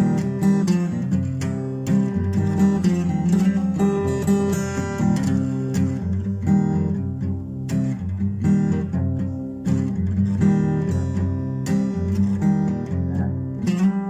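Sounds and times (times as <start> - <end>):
acoustic blues guitar: 0.0 - 14.0.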